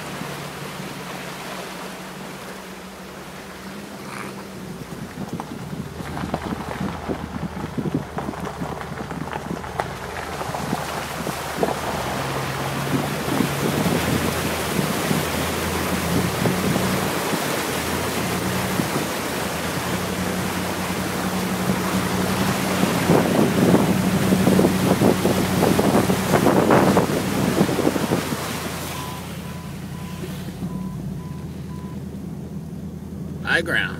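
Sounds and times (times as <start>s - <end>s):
engine running: 0.0s - 33.9s
water rushing and splashing: 0.0s - 33.9s.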